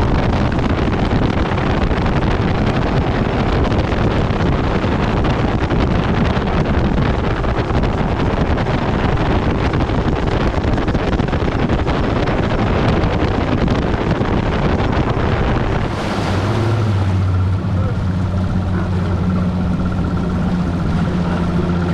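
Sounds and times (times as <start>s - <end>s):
boat engine hum: 0.0s - 21.9s
wind buffeting microphone: 0.0s - 21.9s.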